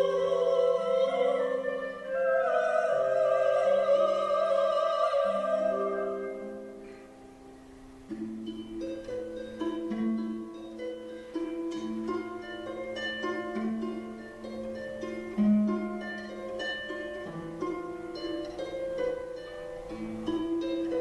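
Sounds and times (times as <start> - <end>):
harp playing plucked melody: 0.0 - 21.0.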